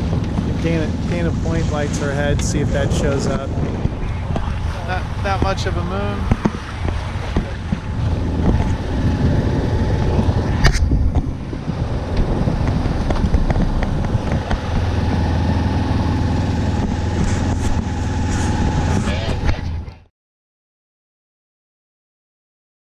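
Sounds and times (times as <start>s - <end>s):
boat diesel engine humming: 0.0s - 20.1s
wind on microphone: 0.0s - 20.1s.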